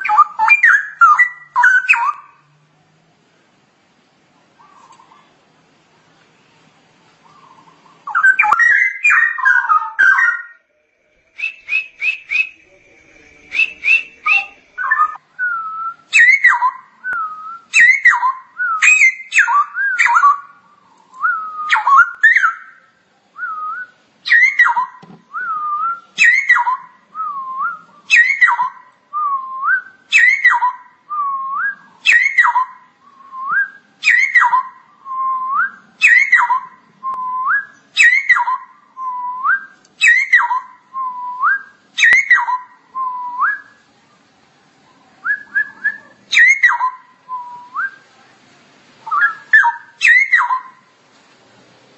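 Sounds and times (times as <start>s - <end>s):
bird singing whistled phrases: 0.0s - 2.3s, 7.3s - 22.8s, 23.4s - 43.8s, 45.2s - 48.0s, 49.0s - 50.8s.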